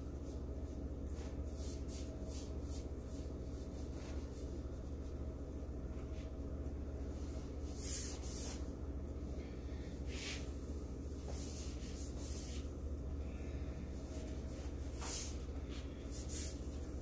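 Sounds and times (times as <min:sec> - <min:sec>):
soft swishing paint strokes: 0:00.0 - 0:17.0
steady low hum: 0:00.0 - 0:17.0.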